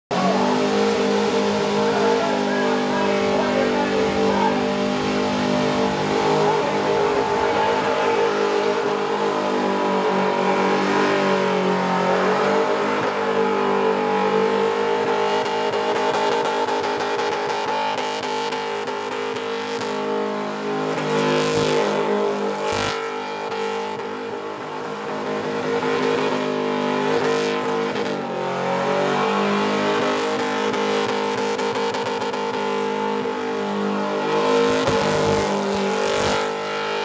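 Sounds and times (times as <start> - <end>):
car engine at high revs: 0.1 - 37.0.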